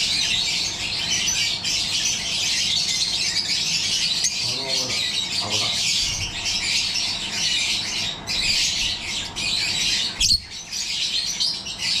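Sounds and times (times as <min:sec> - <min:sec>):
lovebirds twittering and squawking: 0:00.0 - 0:12.0.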